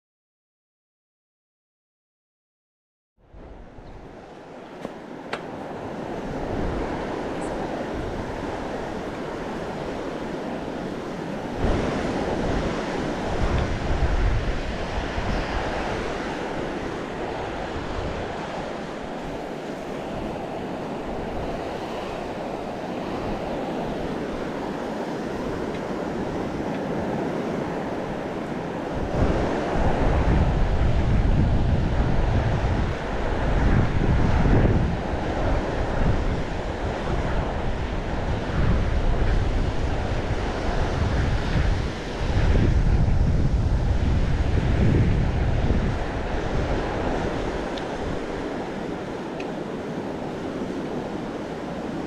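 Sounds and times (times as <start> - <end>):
wind buffeting microphone: 3.2 - 52.0
steady rushing noise: 3.3 - 52.0.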